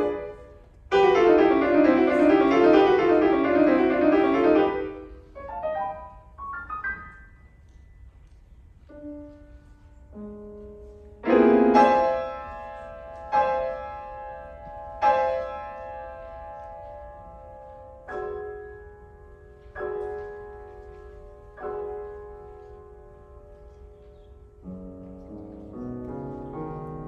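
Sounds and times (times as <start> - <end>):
piano chords: 0.0 - 27.0.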